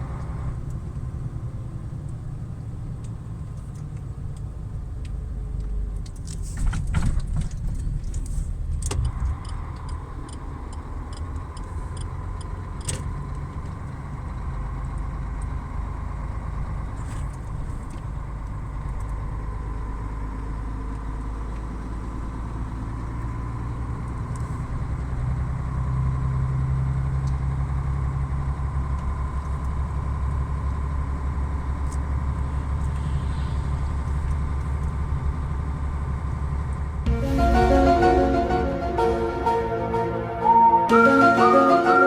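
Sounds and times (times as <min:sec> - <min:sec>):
vehicle engine and road noise: 0:00.0 - 0:40.5.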